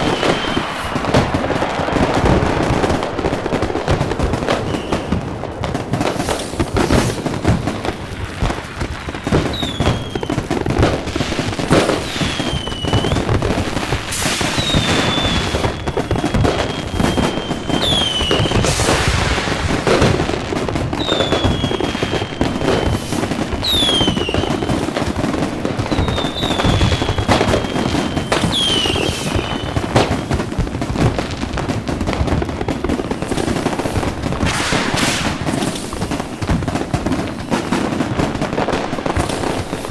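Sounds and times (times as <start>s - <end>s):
fireworks bangs and crackle: 0.0s - 39.9s
whistling fireworks: 0.0s - 39.9s.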